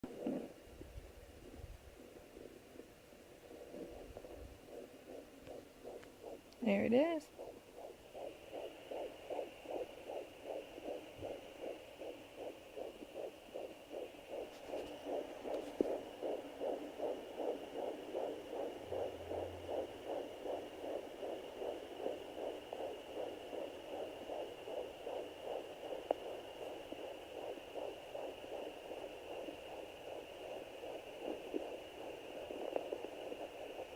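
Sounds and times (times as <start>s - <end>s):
whooshing fetal heartbeat: 0.0s - 33.9s.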